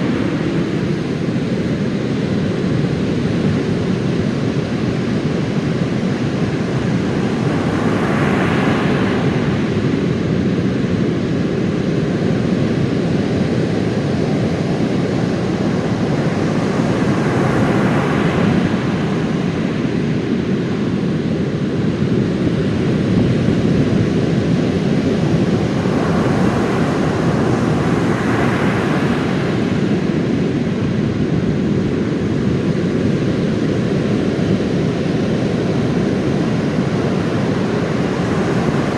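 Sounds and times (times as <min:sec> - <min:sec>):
big waves breaking: 0:00.0 - 0:38.9.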